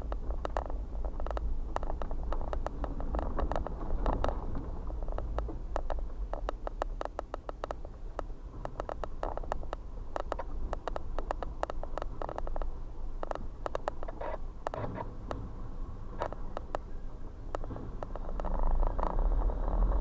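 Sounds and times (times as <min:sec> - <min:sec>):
gravel crackling under tyres: 0:00.0 - 0:20.0
vehicle rumble: 0:00.0 - 0:20.0.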